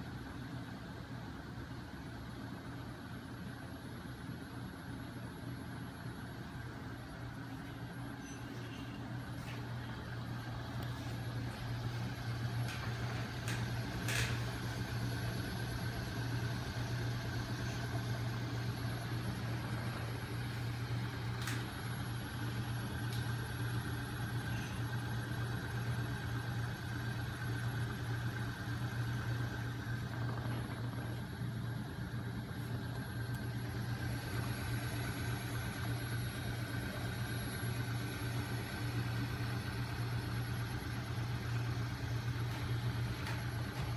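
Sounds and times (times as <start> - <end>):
motor and flywheel humming: 0.1 - 43.9.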